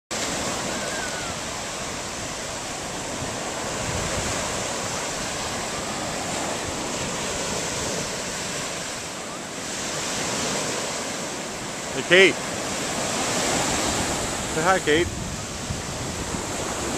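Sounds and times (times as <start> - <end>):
ocean surf breaking: 0.1 - 16.9.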